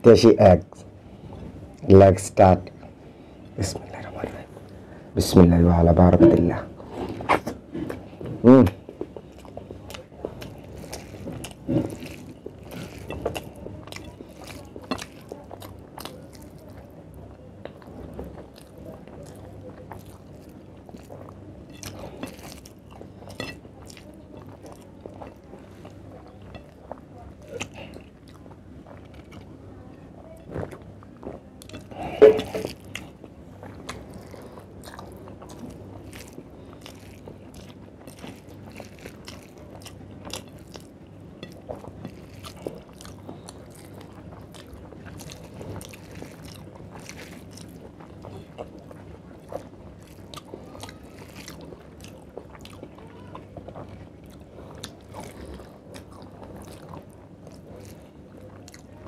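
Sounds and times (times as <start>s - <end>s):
person chewing food: 6.4s - 59.0s.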